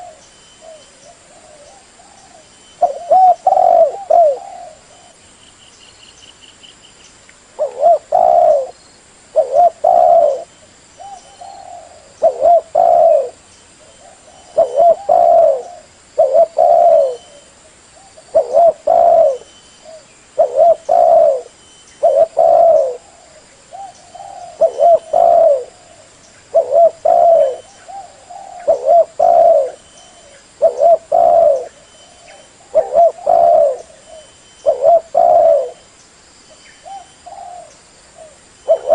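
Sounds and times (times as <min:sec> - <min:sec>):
dove cooing: 0:00.0 - 0:05.2, 0:07.6 - 0:35.9, 0:36.8 - 0:38.9.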